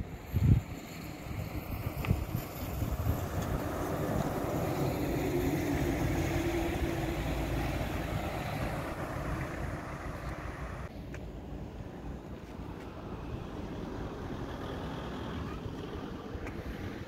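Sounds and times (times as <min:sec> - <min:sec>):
bus engine drone passing: 0:00.0 - 0:17.0.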